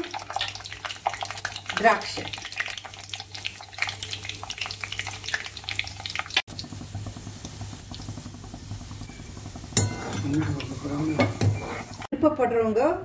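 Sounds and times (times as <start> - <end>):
nuts sizzling in oil: 0.0 - 12.1.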